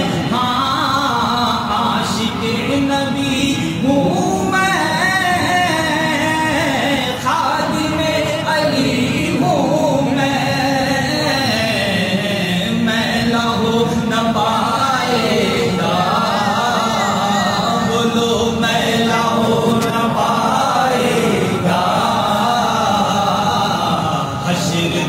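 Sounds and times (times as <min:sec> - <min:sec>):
man singing devotional song: 0:00.0 - 0:25.0.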